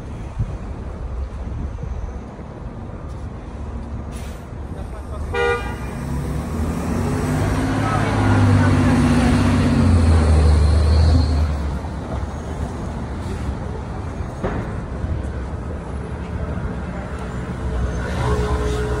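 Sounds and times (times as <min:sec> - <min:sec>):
traffic hum: 0:00.0 - 0:19.0
vehicle engine rumble: 0:00.0 - 0:19.0.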